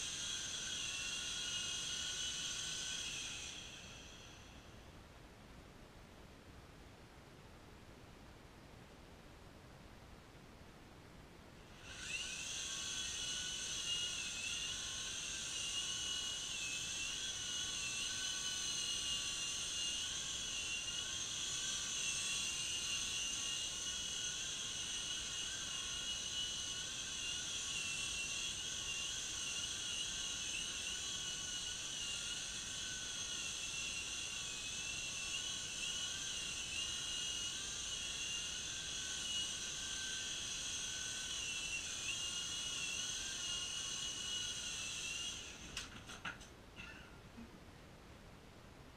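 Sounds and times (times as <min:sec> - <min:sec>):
remote-control helicopter motor whining: 0:00.0 - 0:04.7, 0:11.7 - 0:46.4.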